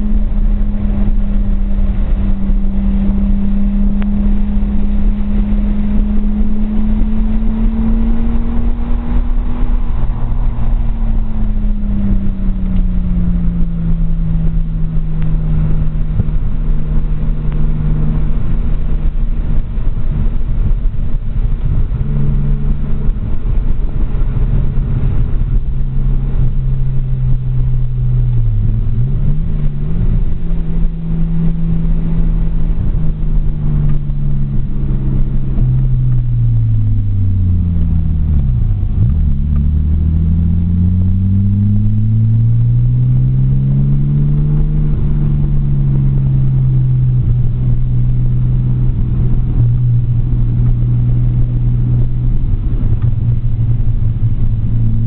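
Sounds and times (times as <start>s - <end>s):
road and wind noise: 0.0s - 55.0s
turbocharged car engine: 0.0s - 55.0s.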